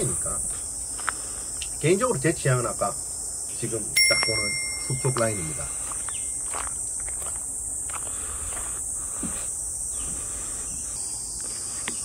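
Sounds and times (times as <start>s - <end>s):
insects singing: 0.0s - 12.0s.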